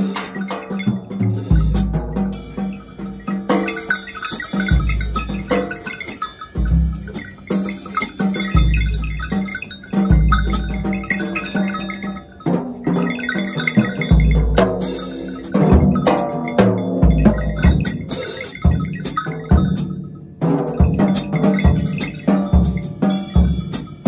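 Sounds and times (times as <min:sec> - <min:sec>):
ringing metallic strikes: 0:00.0 - 0:24.0.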